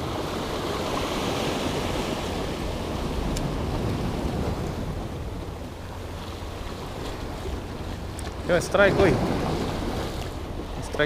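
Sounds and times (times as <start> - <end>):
rough surf washing: 0.0 - 11.0
wind on microphone: 0.0 - 11.0.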